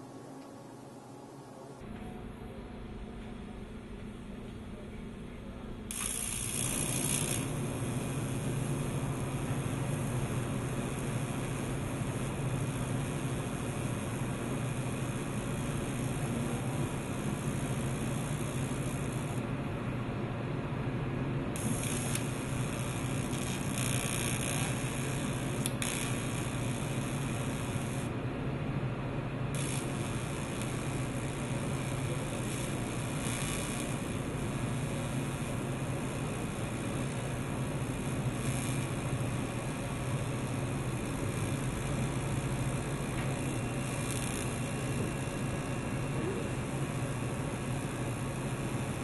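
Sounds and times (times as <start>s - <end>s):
bright welding hiss: 5.9s - 19.4s, 21.6s - 28.1s, 29.5s - 49.0s
welding arc buzzing: 5.9s - 19.5s, 21.5s - 28.2s, 29.5s - 49.0s.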